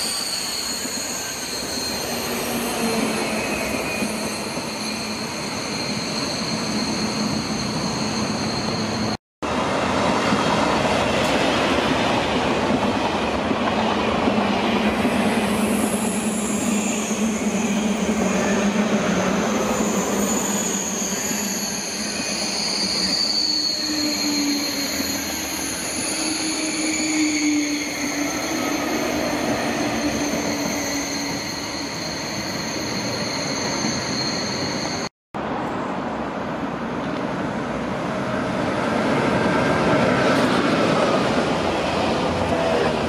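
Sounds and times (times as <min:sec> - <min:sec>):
train wheels rumbling on rail: 0:00.0 - 0:35.6
high train whines: 0:00.0 - 0:43.0.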